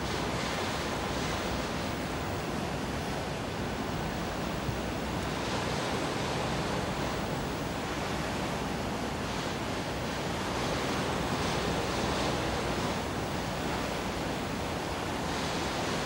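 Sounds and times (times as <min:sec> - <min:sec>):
water rushing along ship hull: 0:00.0 - 0:16.0
wind: 0:00.0 - 0:16.0.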